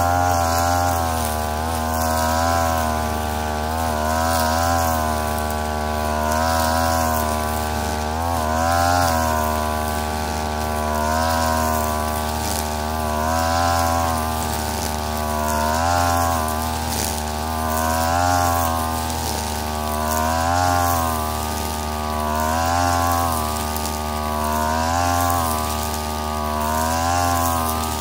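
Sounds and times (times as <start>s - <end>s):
brushcutter engine running: 0.0s - 28.0s
nylon line cutting grass: 0.0s - 28.0s.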